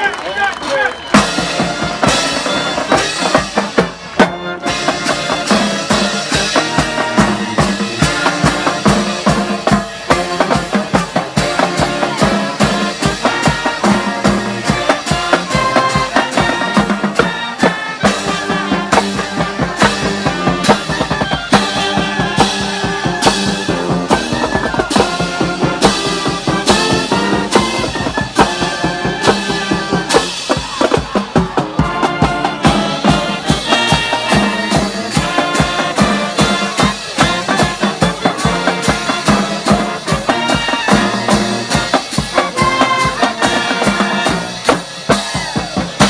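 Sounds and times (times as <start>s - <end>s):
brass melody: 0.0s - 46.0s
snare and bass drums: 0.9s - 46.0s.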